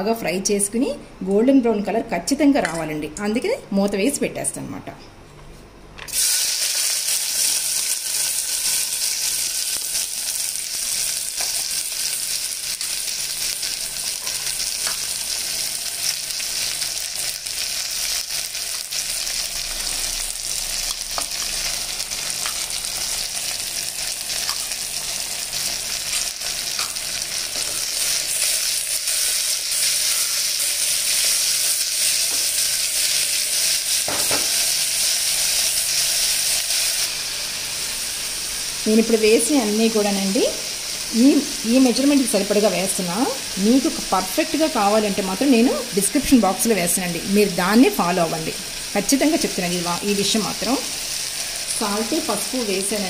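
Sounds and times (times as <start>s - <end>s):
onions sizzling in oil: 6.1s - 53.0s.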